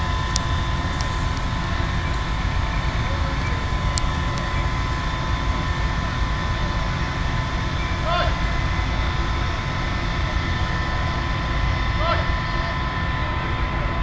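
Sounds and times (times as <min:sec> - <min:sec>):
gas burning with a loud rush: 0:00.0 - 0:14.0.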